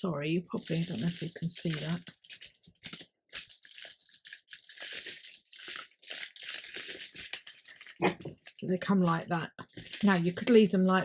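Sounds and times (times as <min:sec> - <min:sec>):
parchment paper crinkling: 0:00.5 - 0:11.0.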